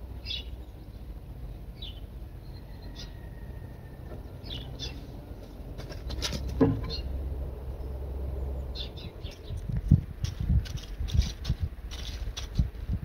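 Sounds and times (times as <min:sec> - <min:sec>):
low steady rumble: 0:00.0 - 0:13.0
small birds chirping: 0:00.0 - 0:13.0.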